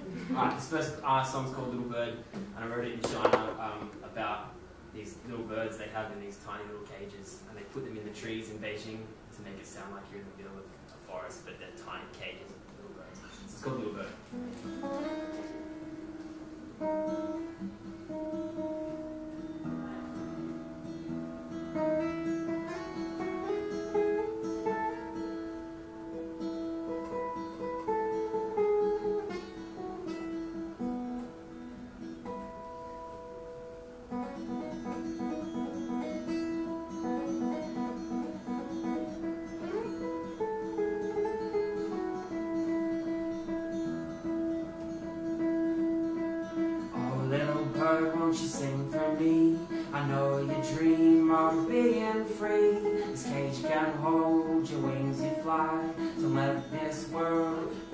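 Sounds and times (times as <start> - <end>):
acoustic guitar playing: 0.0 - 57.9.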